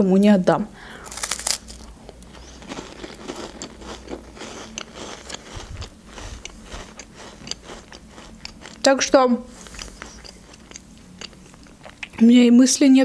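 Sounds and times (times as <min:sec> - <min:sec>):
crunchy biscuit chewing: 0:01.0 - 0:12.2.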